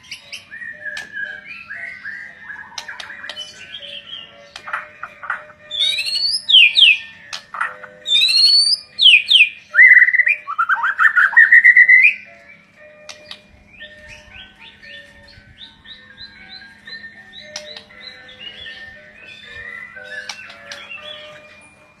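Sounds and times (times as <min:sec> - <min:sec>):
bird whistling song: 0:00.0 - 0:21.9
soft bird chirps: 0:00.0 - 0:21.9.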